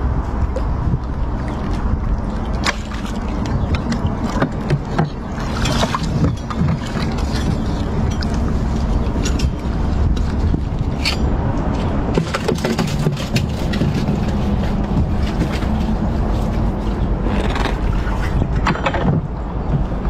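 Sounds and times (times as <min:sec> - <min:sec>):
knocks and splashes: 0:00.0 - 0:20.0
low rumble: 0:00.0 - 0:20.0
water movement: 0:00.0 - 0:20.0.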